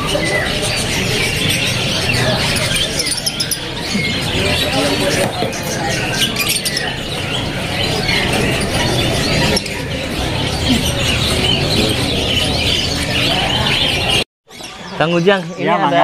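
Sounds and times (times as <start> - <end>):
canaries chirping and trilling: 0.0 - 16.0.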